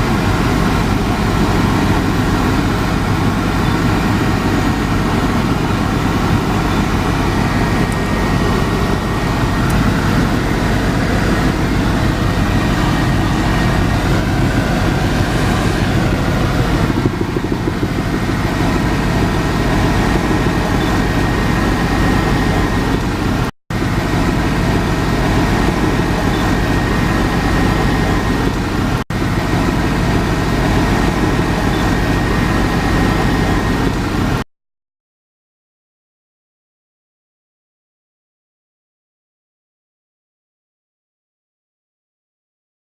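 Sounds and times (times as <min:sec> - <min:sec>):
helicopter rotor and engine drone: 0:00.0 - 0:34.4
high whine: 0:00.0 - 0:34.4.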